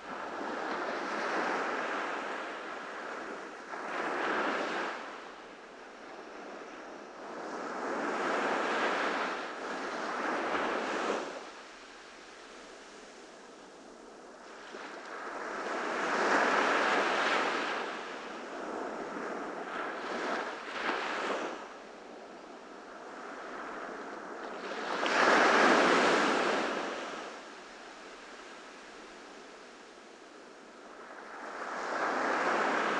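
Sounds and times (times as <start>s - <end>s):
ocean waves breaking on beach: 0.0s - 32.9s.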